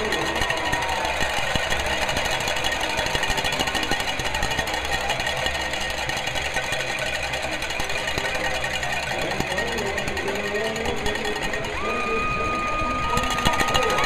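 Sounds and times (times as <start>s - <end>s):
cowbells clanging: 0.0s - 14.0s
crowd noise: 0.0s - 14.0s.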